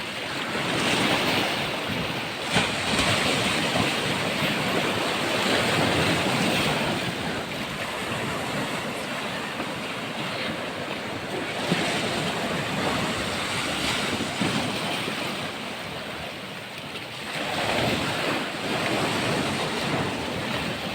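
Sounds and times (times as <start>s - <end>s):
wind on microphone: 0.0s - 16.5s, 17.3s - 20.9s
waves washing onto rocky shore: 0.0s - 20.9s.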